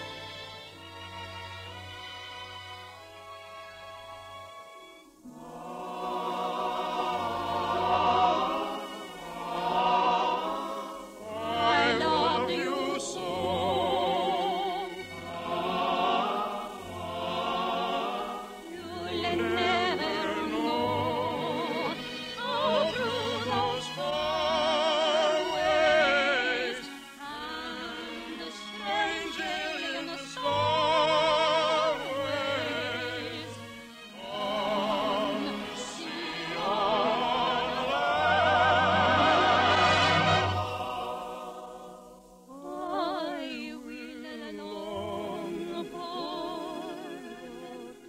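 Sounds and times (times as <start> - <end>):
orchestra playing: 0.0 - 41.4
operatic singing: 0.0 - 48.0.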